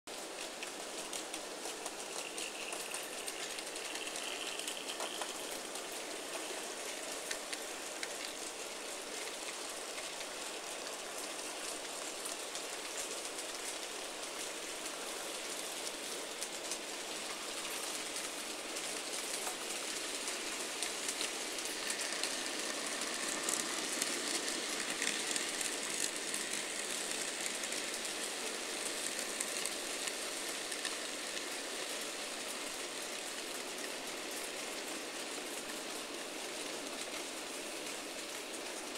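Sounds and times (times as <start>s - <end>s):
model train wheels rattling: 0.2s - 38.9s.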